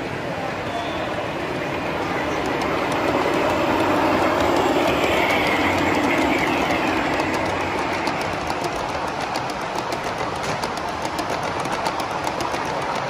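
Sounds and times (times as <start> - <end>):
model train wheels rumbling: 0.0 - 13.0.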